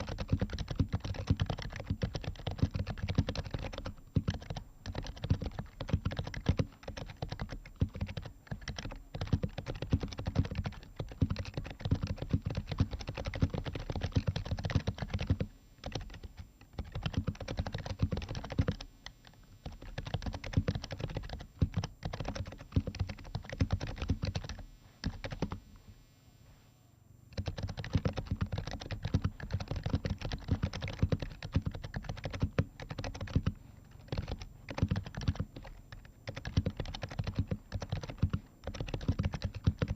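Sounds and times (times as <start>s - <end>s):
keyboard typing: 0.0s - 25.6s, 27.3s - 39.9s.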